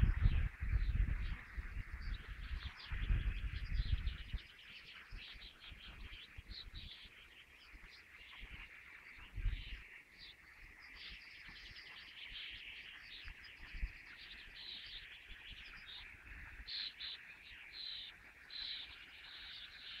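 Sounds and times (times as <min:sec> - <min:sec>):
chorus of birds chirping: 0:00.0 - 0:20.0.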